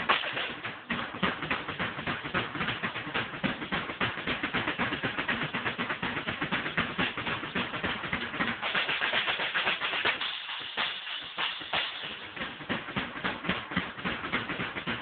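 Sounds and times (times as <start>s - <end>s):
drum kit played fast: 0.0s - 15.0s.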